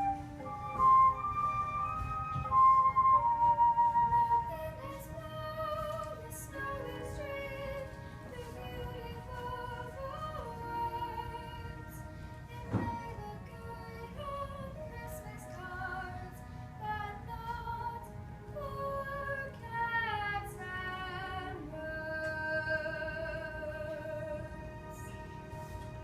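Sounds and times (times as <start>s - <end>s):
musical accompaniment: 0.0s - 26.0s
girl singing: 3.8s - 25.1s.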